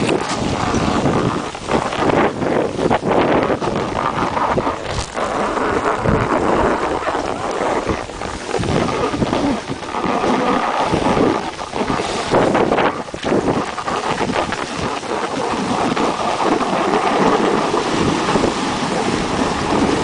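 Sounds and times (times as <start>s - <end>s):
snowboard scraping over snow: 0.0s - 20.0s
wind buffeting microphone: 0.0s - 20.0s.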